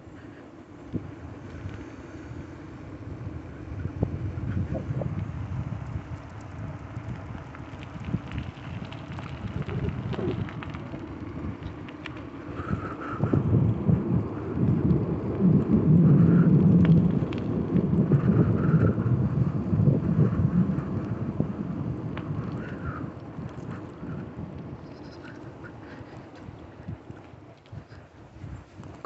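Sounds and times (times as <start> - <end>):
bike tyres on tarmac: 0.0 - 29.0
wind buffeting microphone: 0.0 - 29.0.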